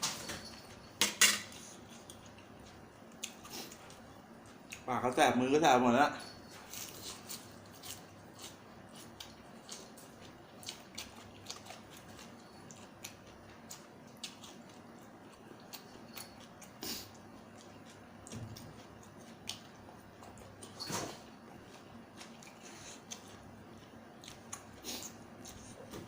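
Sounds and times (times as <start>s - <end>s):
chewing and mouth clicks: 1.7s - 4.9s, 6.7s - 20.8s, 21.6s - 25.8s.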